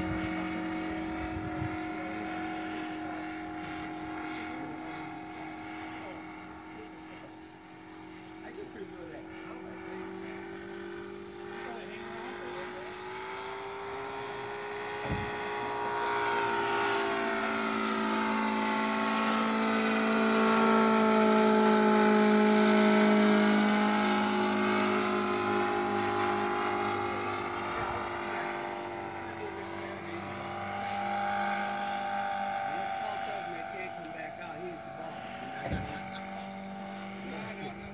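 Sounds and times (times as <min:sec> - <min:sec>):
model plane engine droning: 0:00.0 - 0:37.9.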